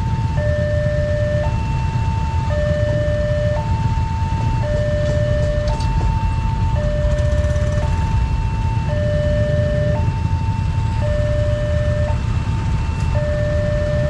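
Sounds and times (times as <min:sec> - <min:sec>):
motorcycle engines idling: 0:00.0 - 0:14.0
two-tone crossing alarm: 0:00.0 - 0:14.0.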